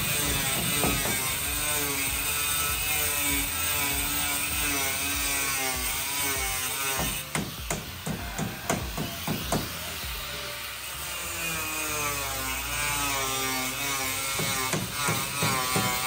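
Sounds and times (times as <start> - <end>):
angle grinder cutting board: 0.0 - 16.0.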